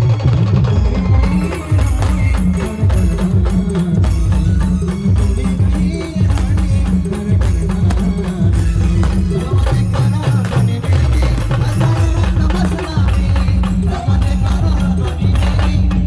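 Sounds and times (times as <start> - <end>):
drums: 0.0 - 16.0
low bass line: 0.0 - 16.0.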